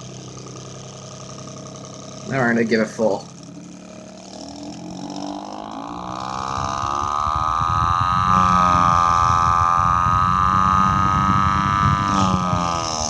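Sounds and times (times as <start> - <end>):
electric fan whining and rattling: 0.0 - 13.0.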